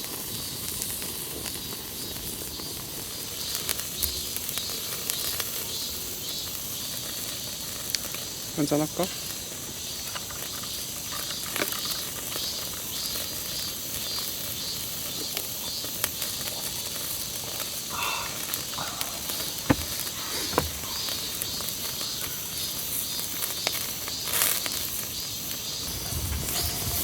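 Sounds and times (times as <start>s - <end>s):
meat sizzling: 0.0s - 27.0s
sharp pops and ticks: 0.1s - 27.0s.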